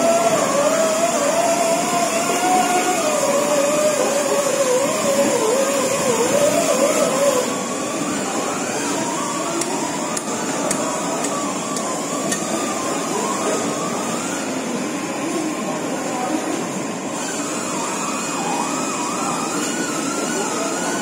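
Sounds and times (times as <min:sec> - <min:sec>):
wavering tone: 0:00.0 - 0:21.0.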